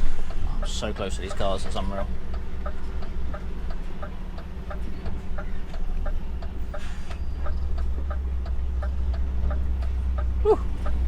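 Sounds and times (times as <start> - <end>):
even ticking: 0.0 - 11.0
truck diesel engine running: 0.0 - 11.0.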